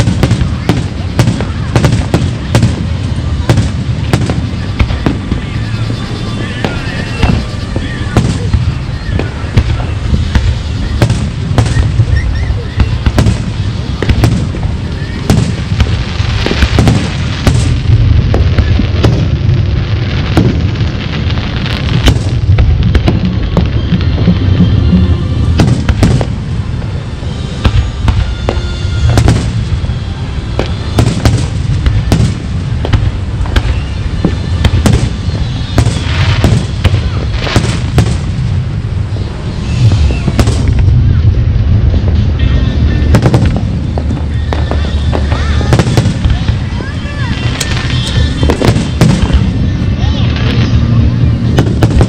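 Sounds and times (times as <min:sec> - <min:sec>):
fireworks bursting: 0:00.0 - 0:52.0
heavy low rumble: 0:00.0 - 0:52.0.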